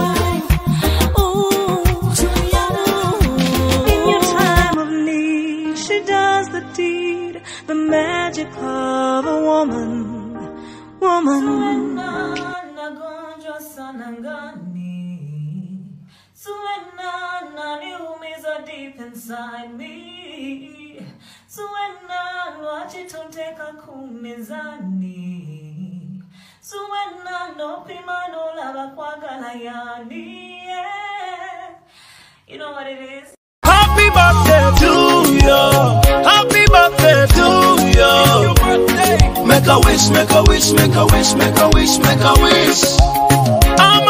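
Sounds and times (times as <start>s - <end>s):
woman singing a cappella: 0.0s - 44.0s.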